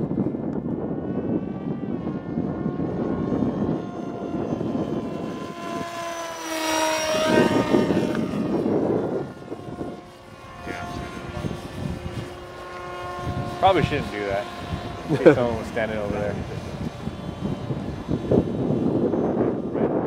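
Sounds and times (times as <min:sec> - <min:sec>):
model plane motor whining: 0:00.0 - 0:20.0.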